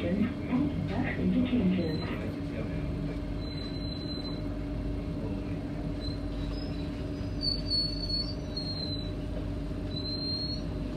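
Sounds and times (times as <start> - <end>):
train humming: 0.0 - 10.0.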